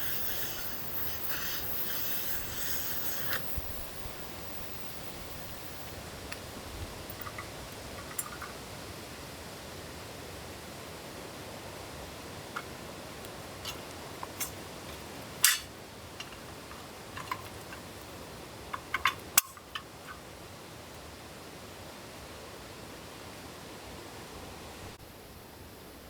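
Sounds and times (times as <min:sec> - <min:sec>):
rain hissing in forest: 0:00.0 - 0:26.0.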